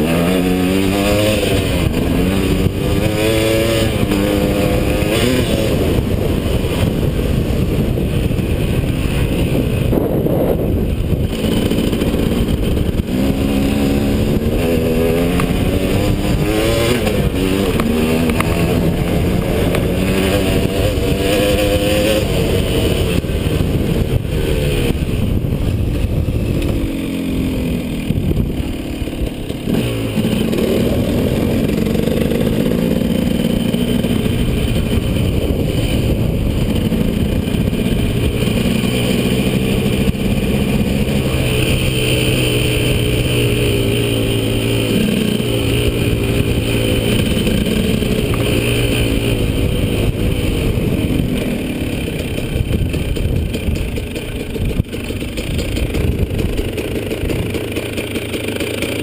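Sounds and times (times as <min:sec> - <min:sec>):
wind on microphone: 0:00.0 - 0:57.6
dirt bike engine revving: 0:00.0 - 0:59.0.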